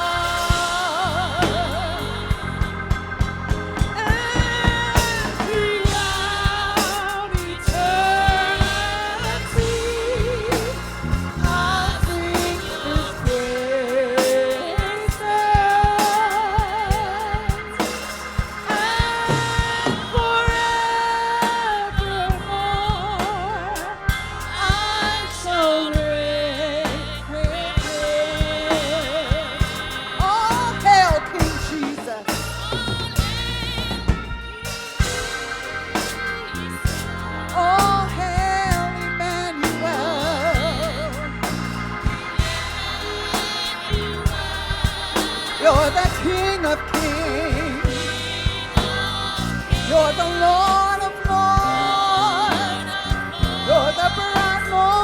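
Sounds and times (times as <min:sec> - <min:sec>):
band with bass and drums: 0:00.0 - 0:55.0
person singing with vibrato: 0:00.0 - 0:55.0.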